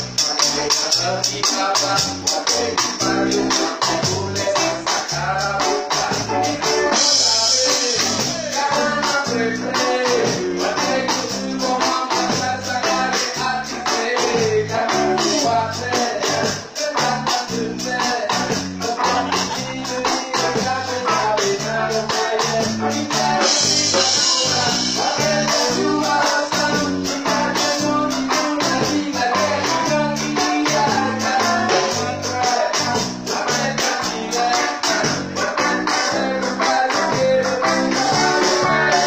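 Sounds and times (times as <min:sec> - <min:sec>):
live music through speakers: 0:00.0 - 0:39.0.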